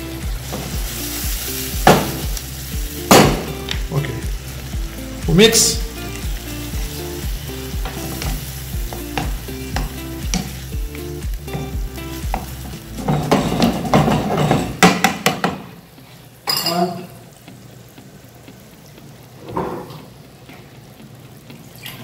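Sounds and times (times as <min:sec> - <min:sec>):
sauce sizzling in a frying pan: 0:00.0 - 0:21.9.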